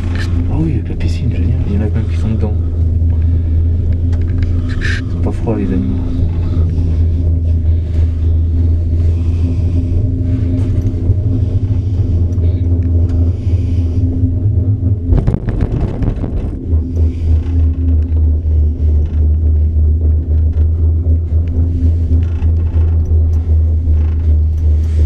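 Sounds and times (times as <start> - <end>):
clattering rumble over tower sheaves: 0.0 - 25.0
gondola cabin hum and rumble: 0.0 - 25.0.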